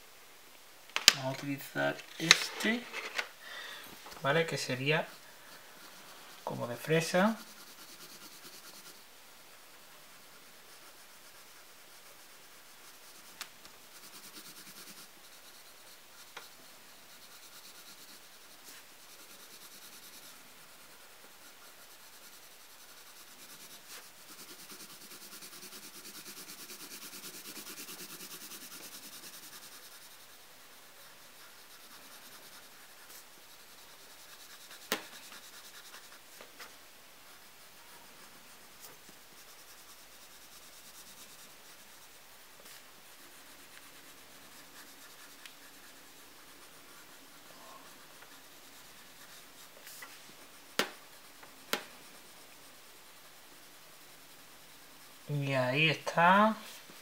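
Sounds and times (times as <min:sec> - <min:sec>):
pencil scratching on paper: 0:04.2 - 0:57.0.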